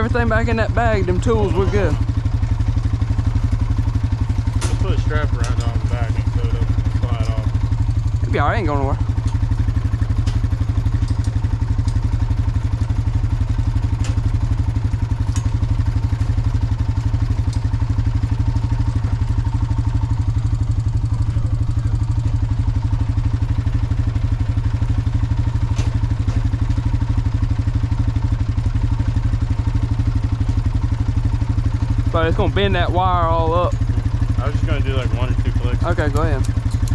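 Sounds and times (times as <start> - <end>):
atv engine idling: 0.0 - 36.9.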